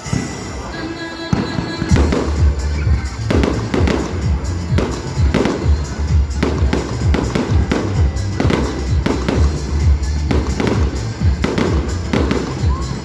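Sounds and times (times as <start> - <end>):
fireworks bangs: 0.0 - 13.0
music with heavy bass: 1.3 - 13.0.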